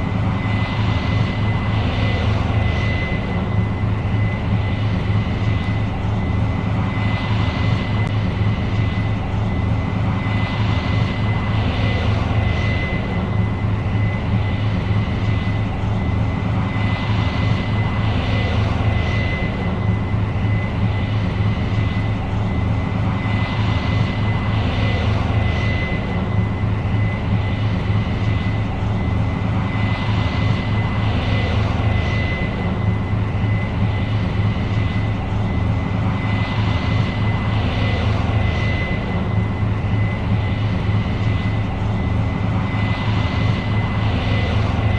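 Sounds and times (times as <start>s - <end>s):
combine harvester engine drone: 0.0s - 44.9s
high whine: 0.0s - 44.9s.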